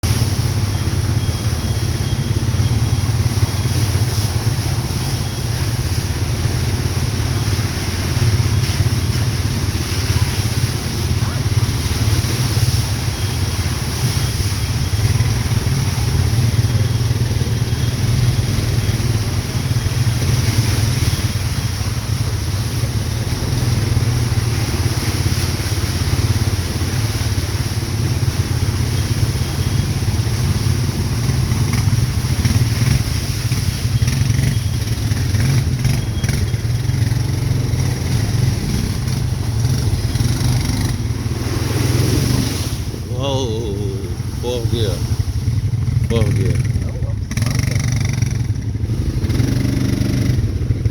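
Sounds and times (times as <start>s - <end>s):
atv engine rumbling: 0.0s - 50.9s.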